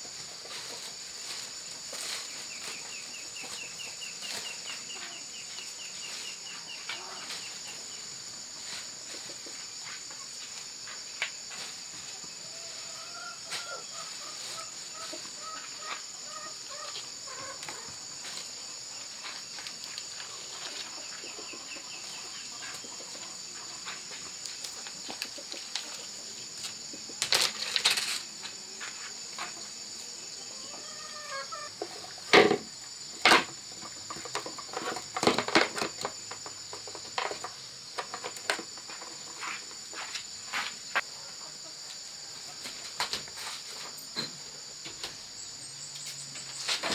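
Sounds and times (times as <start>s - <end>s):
chickens clucking: 0.0s - 44.4s
insects droning: 0.0s - 46.9s.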